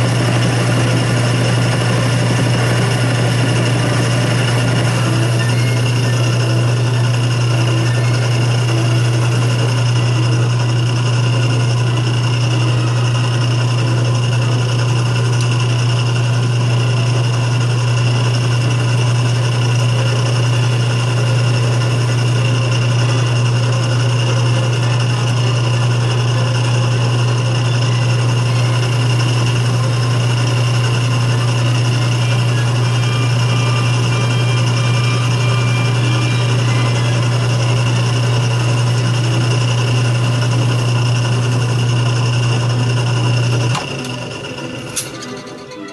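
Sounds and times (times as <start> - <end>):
lathe whine: 0.0 - 45.9
metal lathe humming: 0.0 - 45.9.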